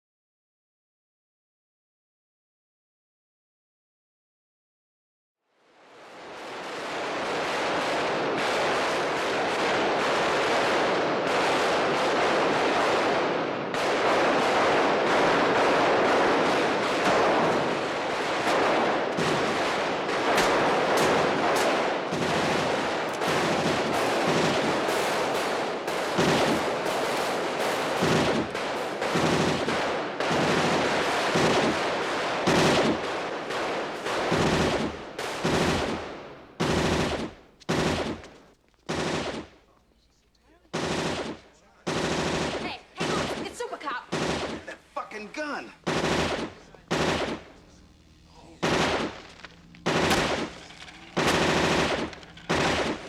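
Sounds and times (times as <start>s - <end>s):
rapid handgun shots: 6.0s - 53.0s.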